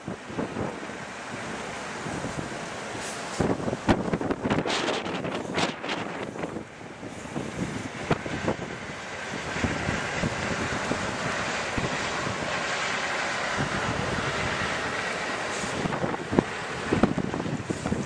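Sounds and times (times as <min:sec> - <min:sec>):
freight train wheels rumbling: 0:00.0 - 0:18.0
wind buffeting microphone: 0:00.0 - 0:18.0.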